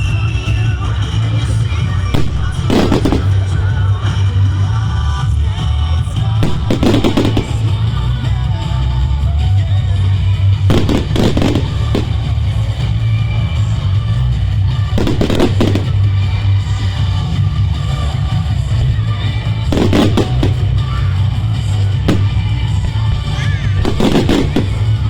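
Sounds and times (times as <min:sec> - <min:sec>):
firework bangs and crackles: 0:00.0 - 0:25.0
music playing: 0:00.0 - 0:25.0.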